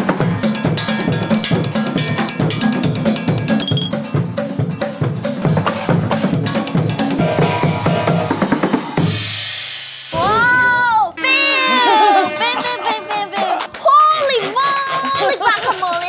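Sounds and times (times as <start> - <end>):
junk percussion groove: 0.0 - 16.0.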